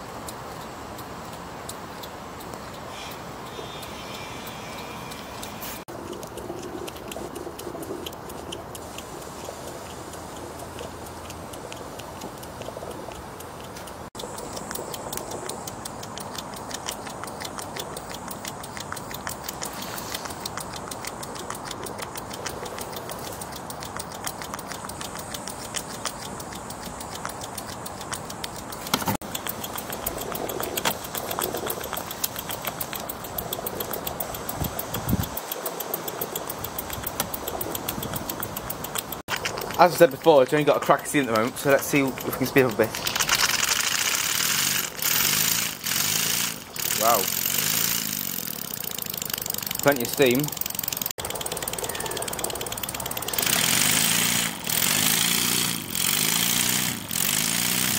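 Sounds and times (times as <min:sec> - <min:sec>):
steam engine exhaust ticking: 0:00.0 - 0:57.9.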